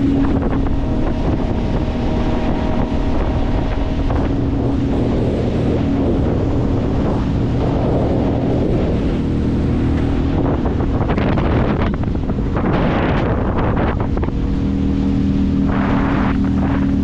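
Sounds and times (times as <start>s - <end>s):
outboard motor humming: 0.0s - 17.0s
water rushing past hull: 0.0s - 17.0s
wind buffeting microphone: 0.0s - 17.0s.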